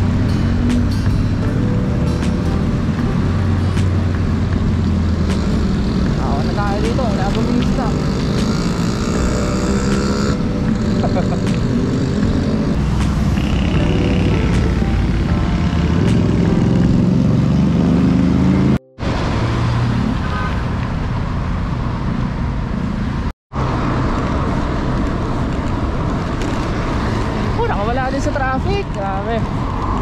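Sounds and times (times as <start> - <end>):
cars passing: 0.0 - 30.0
rumbling road noise: 0.0 - 30.0.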